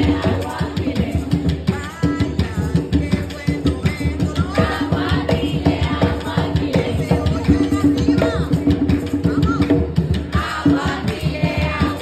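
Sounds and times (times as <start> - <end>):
barrel drums: 0.0 - 12.0
women singing: 0.0 - 12.0.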